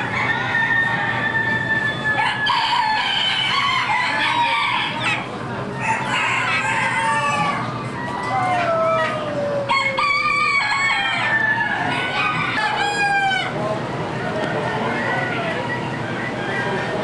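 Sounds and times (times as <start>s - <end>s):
hens clucking: 0.0s - 17.0s
roosters crowing: 0.0s - 17.0s.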